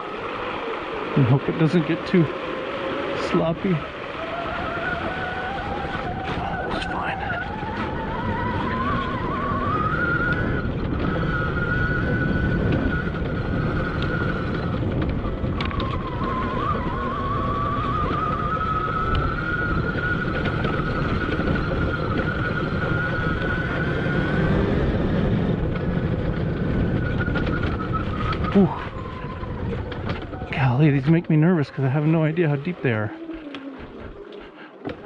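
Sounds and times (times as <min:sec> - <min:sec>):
electric motor whining: 0:00.0 - 0:35.0
wind rumble on microphone: 0:00.0 - 0:35.0.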